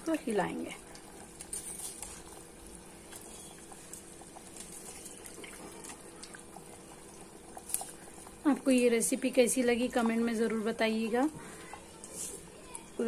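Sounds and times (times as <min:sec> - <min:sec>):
rice simmering with bubbling: 0:00.0 - 0:13.0.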